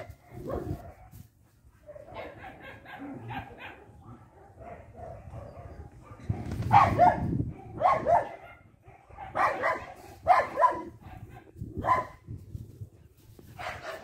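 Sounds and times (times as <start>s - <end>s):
dog barking: 0.0s - 1.2s, 1.8s - 12.2s, 13.6s - 14.0s.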